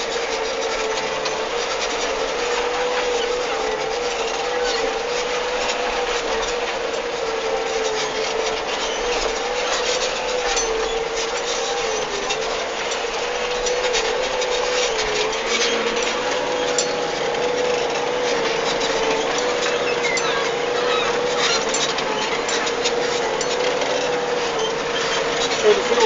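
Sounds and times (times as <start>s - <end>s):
steady whine: 0.0s - 26.0s
tractor diesel engine running: 0.0s - 26.0s.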